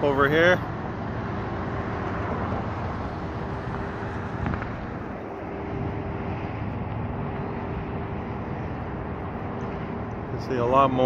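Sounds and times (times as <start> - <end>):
constant hum: 0.0 - 11.0
road traffic noise: 0.0 - 11.0.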